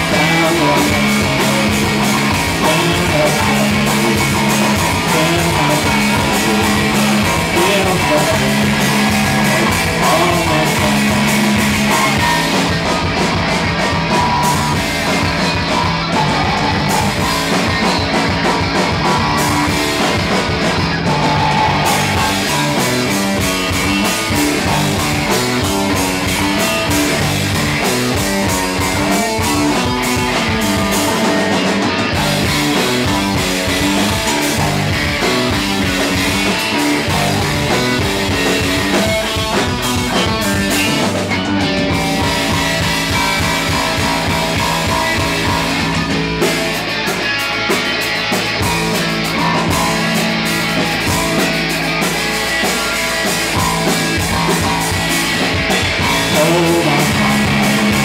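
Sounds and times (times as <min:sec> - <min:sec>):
electric guitar: 0:00.0 - 0:58.0
rapid drum hits: 0:00.0 - 0:58.0
rock band playing live: 0:00.0 - 0:58.0.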